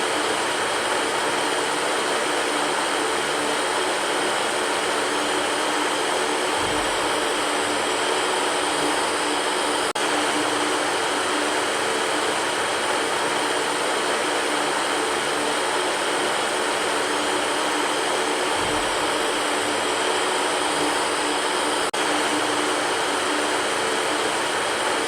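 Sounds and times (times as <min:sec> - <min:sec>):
electric fan running: 0:00.0 - 0:25.0.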